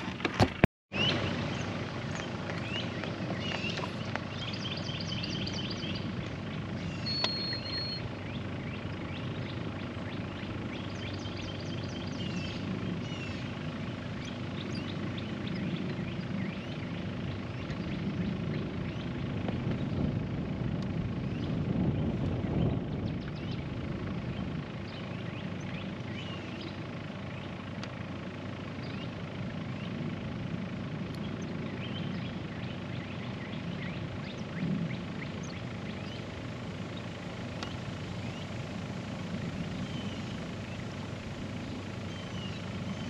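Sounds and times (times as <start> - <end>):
steady low hum: 0.0 - 43.0
birds chirping in trills: 0.9 - 43.0.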